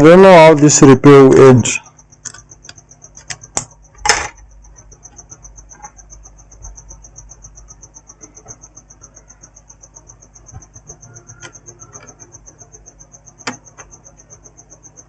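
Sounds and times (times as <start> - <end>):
high-pitched pulsing chirp: 1.1 - 15.0.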